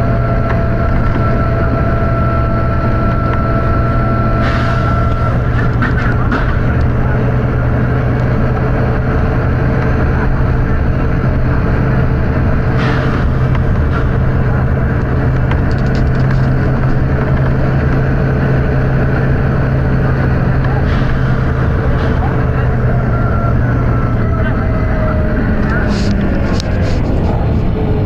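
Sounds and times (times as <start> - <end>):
bus diesel engine droning: 0.0 - 28.0.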